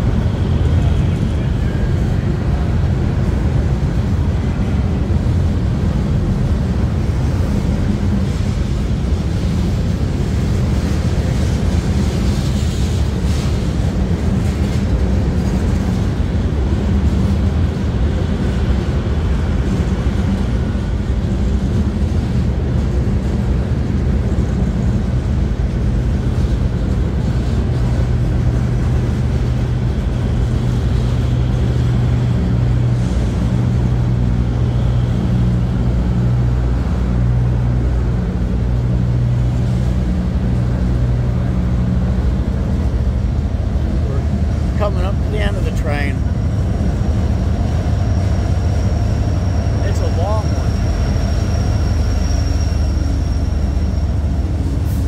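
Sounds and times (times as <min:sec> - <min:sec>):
droning hum: 0:00.0 - 0:55.0
freight train wheels rumbling: 0:00.0 - 0:55.0.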